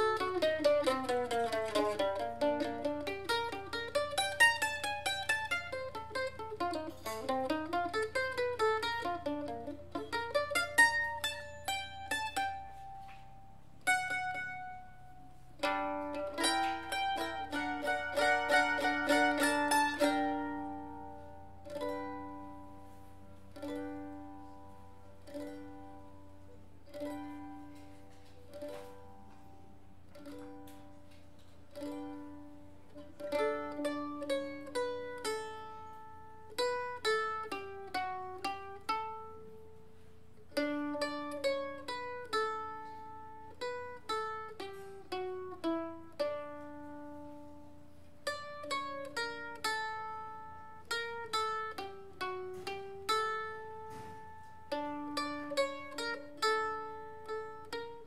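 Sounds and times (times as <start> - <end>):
faint low hum: 0.0 - 58.0
mandolin plucked notes: 0.0 - 58.0.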